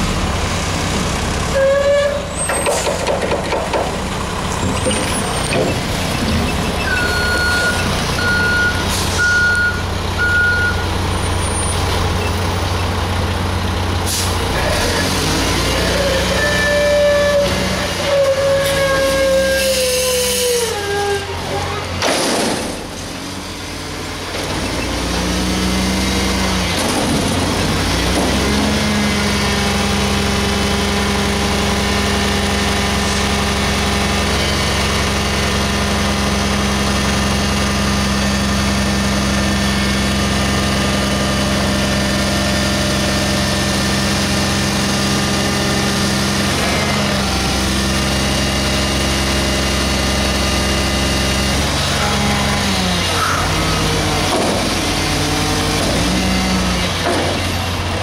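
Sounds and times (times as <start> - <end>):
garbage truck diesel engine revving: 3.8 - 58.0.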